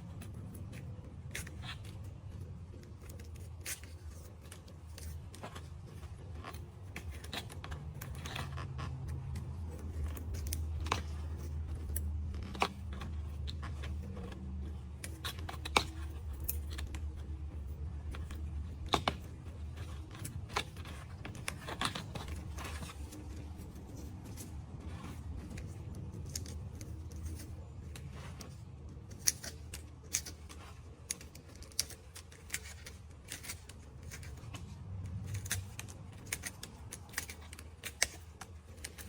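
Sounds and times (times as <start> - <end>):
handling clicks and rustles: 0.0 - 39.0
low steady hum: 0.0 - 39.0.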